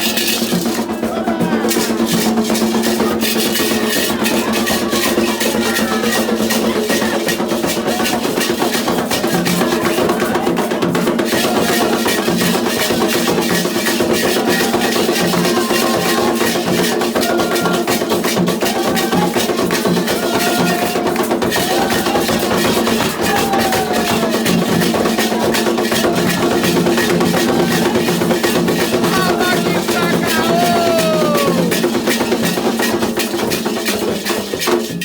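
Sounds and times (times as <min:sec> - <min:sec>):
voices singing a chant: 0:00.0 - 0:34.4
hand drums playing fast rhythm: 0:00.0 - 0:35.0.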